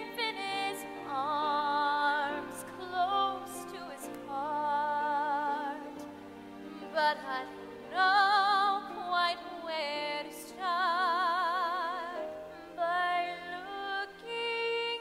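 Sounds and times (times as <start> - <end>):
soft instrumental accompaniment: 0.0 - 15.0
woman singing operatic ballad: 0.0 - 15.0.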